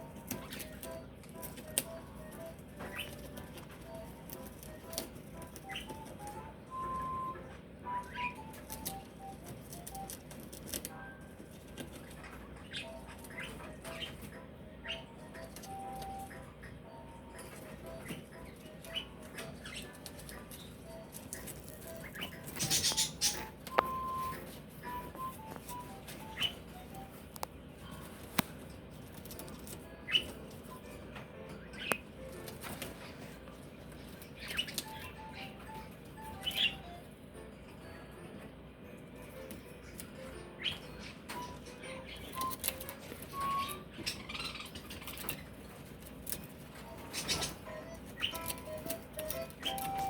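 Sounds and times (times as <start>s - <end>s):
bird chirps: 0.0s - 10.3s, 11.8s - 27.3s, 29.8s - 37.1s, 39.7s - 50.0s.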